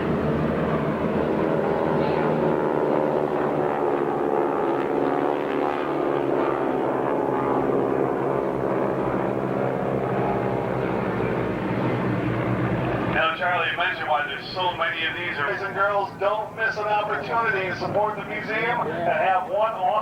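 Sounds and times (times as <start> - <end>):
propeller planes droning: 0.0 - 20.0.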